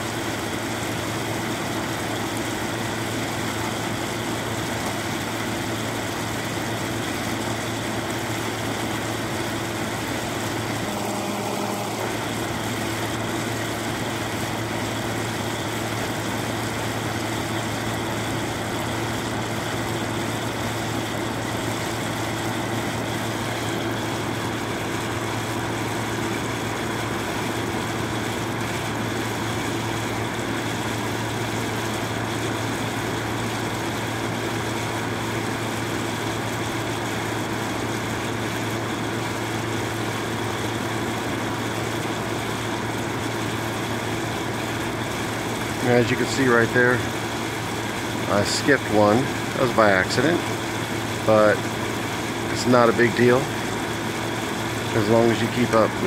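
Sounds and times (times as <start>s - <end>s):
fan rushing noise: 0.0s - 37.4s, 39.0s - 56.0s
air conditioner motor hum: 0.0s - 56.0s.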